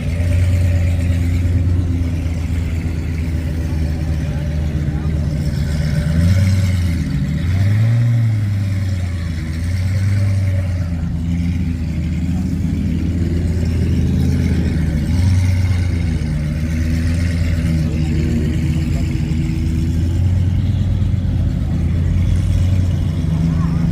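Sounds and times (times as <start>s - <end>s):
car engine idling and revving: 0.0s - 23.9s.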